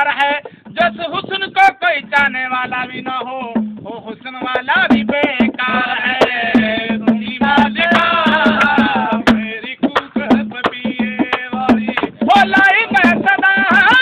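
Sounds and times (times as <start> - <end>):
hand drum beat: 0.0 - 14.0
man singing folk song: 0.0 - 14.0.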